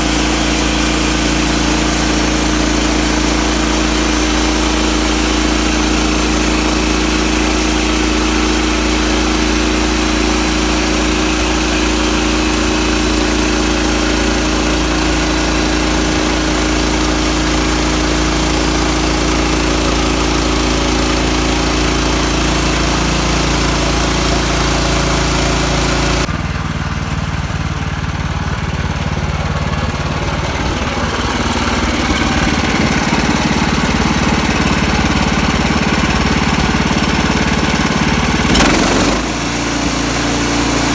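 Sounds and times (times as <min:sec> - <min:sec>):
gas engine running: 0:00.0 - 0:40.9.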